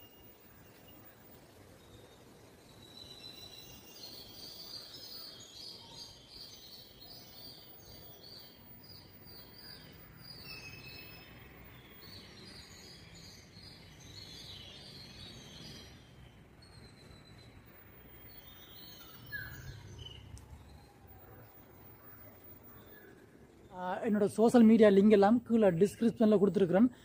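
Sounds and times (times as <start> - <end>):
faint outdoor background hum: 0.0 - 27.0
birds chirping and singing: 1.8 - 26.8.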